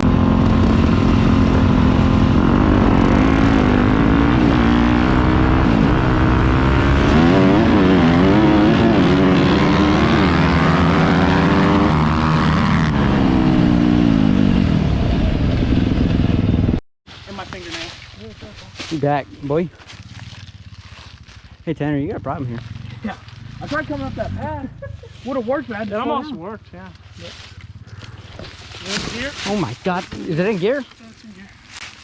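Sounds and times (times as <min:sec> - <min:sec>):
dirt bike engine revving: 0:00.0 - 0:16.8, 0:19.0 - 0:30.8.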